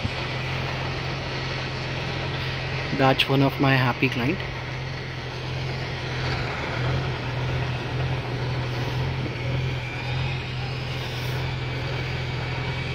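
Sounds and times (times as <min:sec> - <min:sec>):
construction site noise: 0:00.0 - 0:12.9
low mechanical hum: 0:00.0 - 0:12.9.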